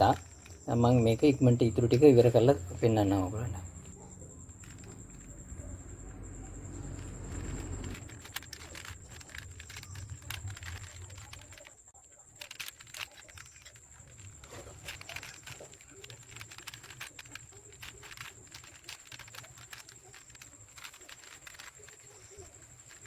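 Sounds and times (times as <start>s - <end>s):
puzzle cube clicking: 0.0s - 5.8s, 6.8s - 23.0s.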